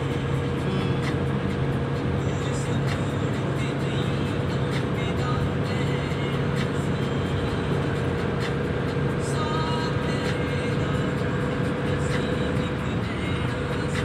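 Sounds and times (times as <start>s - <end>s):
car road and engine noise: 0.0s - 14.0s
steady whine: 0.0s - 14.0s.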